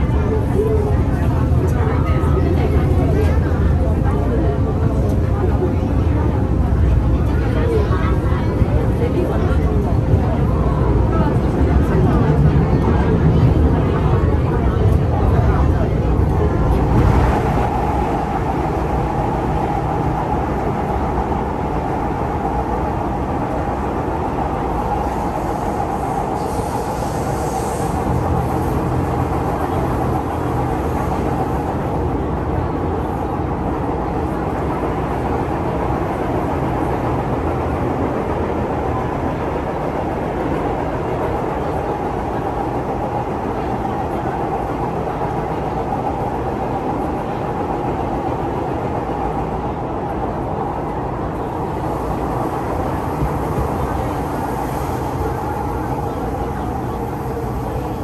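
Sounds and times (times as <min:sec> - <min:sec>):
train drive mechanical hum: 0:00.0 - 0:58.0
train wheels rumbling on rail: 0:00.0 - 0:58.0.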